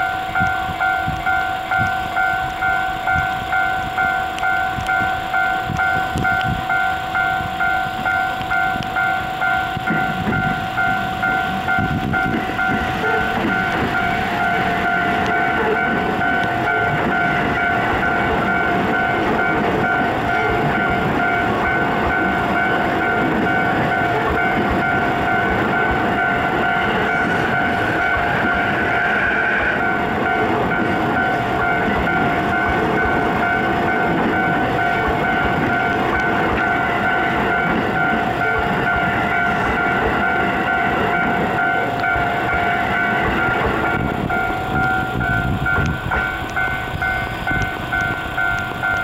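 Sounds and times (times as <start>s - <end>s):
train wheels rolling on rails: 0.0s - 49.0s
two-tone crossing warning bell: 0.0s - 49.0s.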